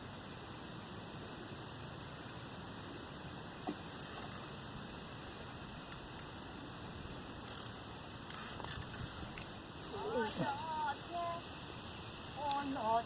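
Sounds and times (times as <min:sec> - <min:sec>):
rustles: 0:00.0 - 0:13.0
steady background hiss: 0:00.0 - 0:13.0.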